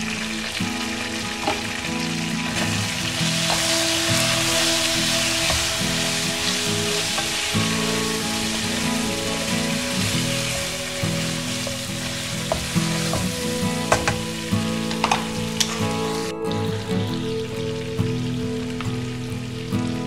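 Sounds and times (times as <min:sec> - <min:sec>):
chicken sizzling in oil: 0:00.0 - 0:19.7.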